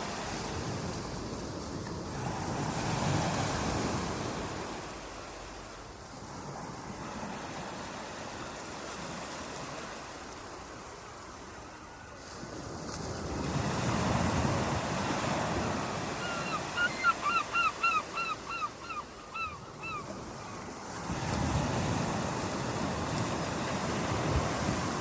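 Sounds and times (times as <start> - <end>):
waves washing on shore: 0.0 - 25.0.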